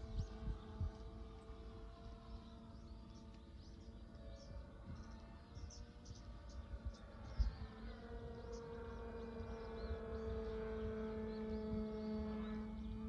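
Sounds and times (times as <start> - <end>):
model airplane motor humming: 0.0 - 13.0
wind rumbling on microphone: 0.0 - 13.0.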